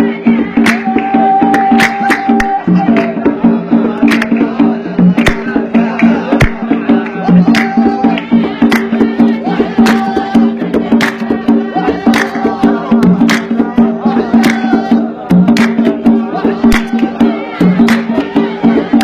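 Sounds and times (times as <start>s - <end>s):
hand percussion beat: 0.0s - 19.0s.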